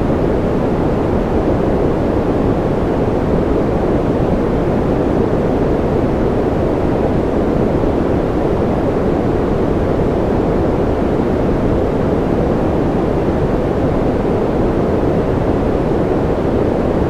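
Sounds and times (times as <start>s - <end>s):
deep muffled white noise: 0.0s - 17.0s.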